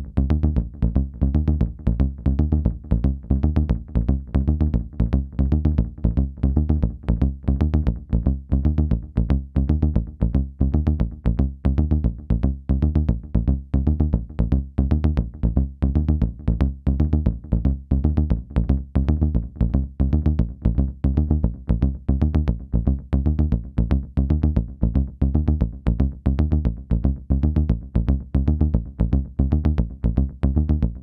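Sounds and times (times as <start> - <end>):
synthesizer bass line with echoes: 0.0 - 31.0.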